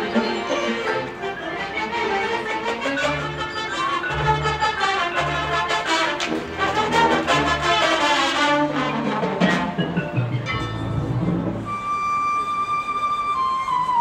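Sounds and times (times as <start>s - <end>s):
marching band playing: 0.0s - 12.2s.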